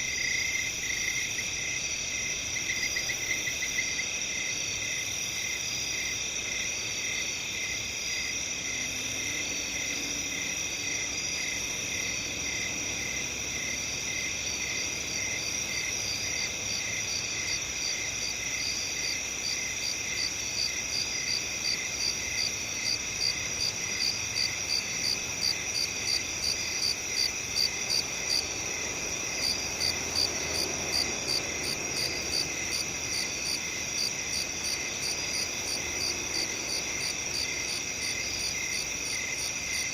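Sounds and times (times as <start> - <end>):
crickets trilling: 0.0 - 39.9
single cricket chirping: 0.0 - 39.9.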